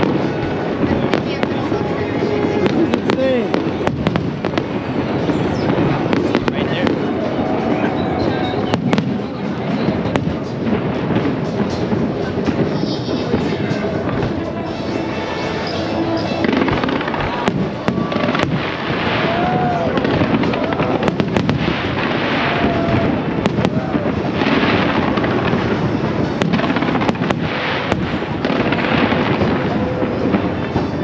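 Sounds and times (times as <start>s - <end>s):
continuous noisy din: 0.0s - 31.0s
fireworks bangs: 0.0s - 31.0s.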